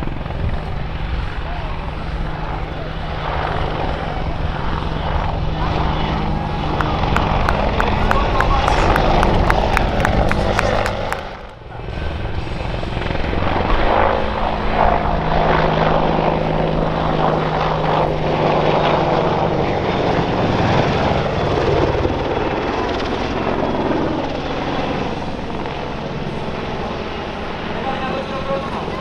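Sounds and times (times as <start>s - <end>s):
helicopter flying past: 0.0s - 29.0s.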